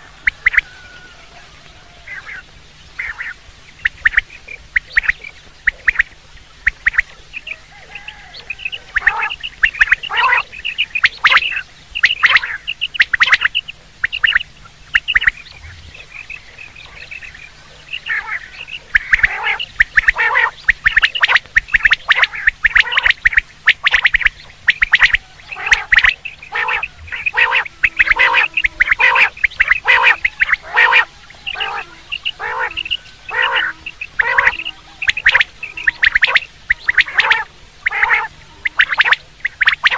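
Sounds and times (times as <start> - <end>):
faint low hum: 0.0 - 39.9
quail calling: 0.0 - 39.9.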